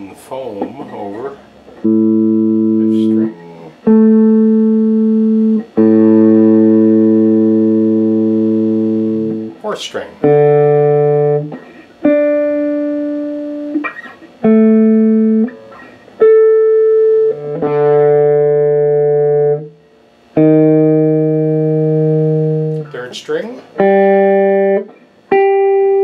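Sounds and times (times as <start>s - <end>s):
unplugged electric guitar notes plucked: 0.9s - 9.6s, 10.2s - 26.0s.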